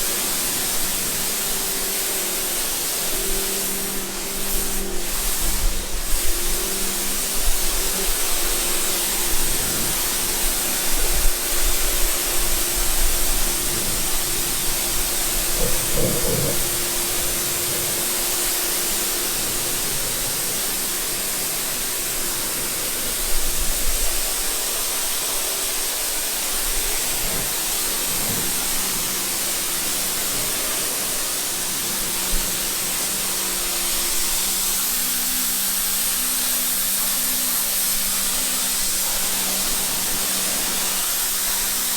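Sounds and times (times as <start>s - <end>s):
water spraying: 0.0s - 41.9s.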